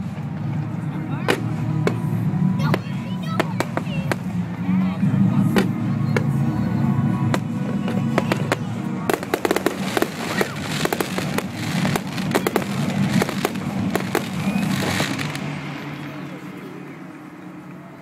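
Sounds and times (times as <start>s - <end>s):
fireworks bangs and crackles: 0.0s - 4.6s, 5.4s - 6.5s, 7.2s - 16.2s.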